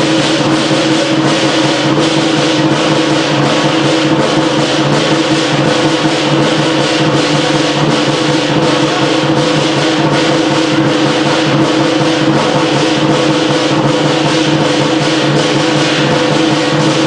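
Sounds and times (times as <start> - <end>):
cymbals clashing: 0.0 - 17.0
drum beating: 0.0 - 17.0.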